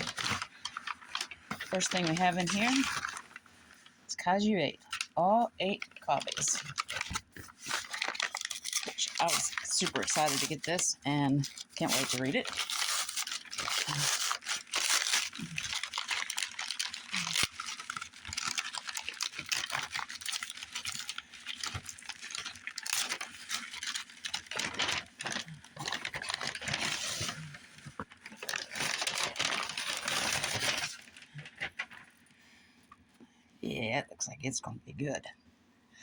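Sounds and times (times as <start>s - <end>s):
packing material crinkling: 0.0s - 4.0s, 4.6s - 32.3s.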